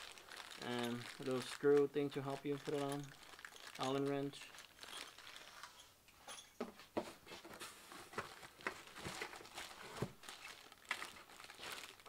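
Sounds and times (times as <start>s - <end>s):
hands rummaging in foam packing: 0.0s - 5.8s, 7.2s - 12.0s
plastic rustling: 0.0s - 5.9s, 7.3s - 12.0s.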